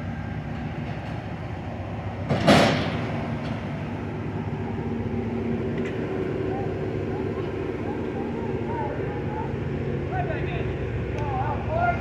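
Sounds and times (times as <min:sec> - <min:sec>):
train mechanical hum: 0:00.0 - 0:12.0.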